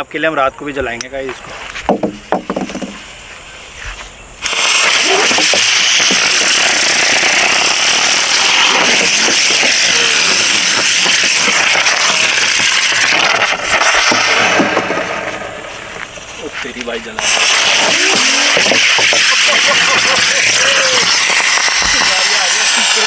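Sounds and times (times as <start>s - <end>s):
firework hissing: 1.4s - 23.0s.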